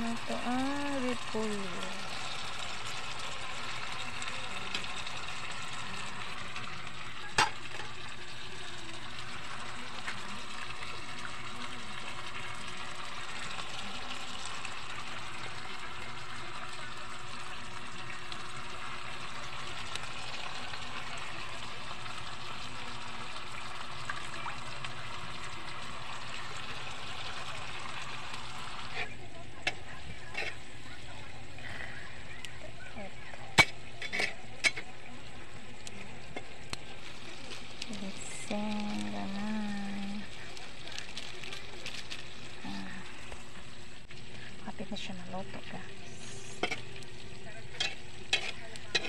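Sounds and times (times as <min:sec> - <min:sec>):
cabbage sizzling in a wok: 0:00.0 - 0:49.0.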